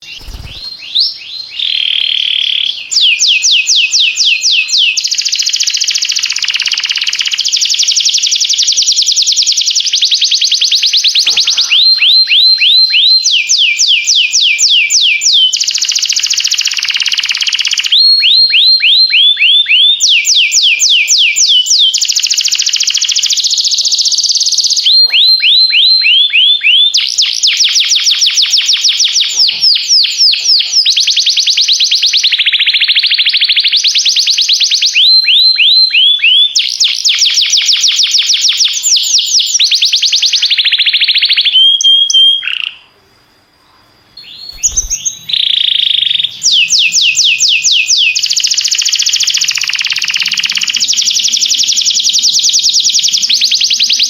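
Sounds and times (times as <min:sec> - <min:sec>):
canary singing: 0:00.0 - 0:42.9, 0:44.2 - 0:54.0.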